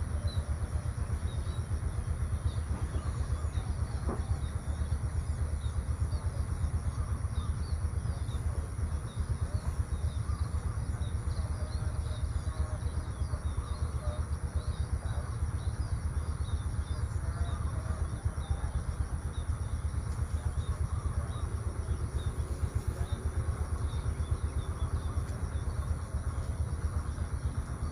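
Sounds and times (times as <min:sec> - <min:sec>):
fluttering low rumble: 0:00.0 - 0:27.9
small birds chirping: 0:00.0 - 0:27.9.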